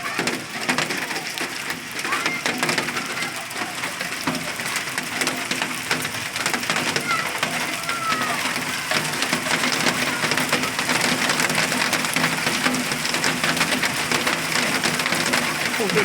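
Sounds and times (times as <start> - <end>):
hailstones clattering: 0.0 - 16.0.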